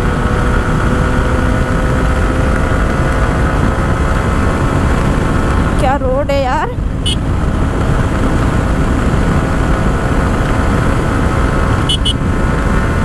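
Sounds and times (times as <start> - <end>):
motorcycle engine at speed: 0.0 - 13.0
wind rushing over microphone: 0.0 - 13.0.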